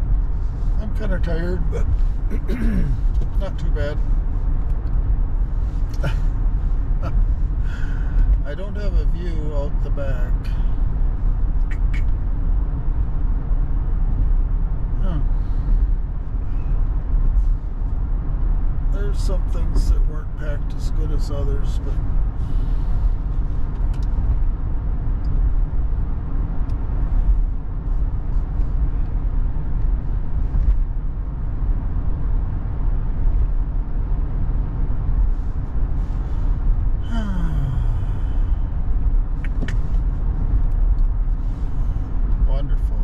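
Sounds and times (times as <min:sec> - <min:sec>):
road and tyre rumble: 0:00.0 - 0:43.0.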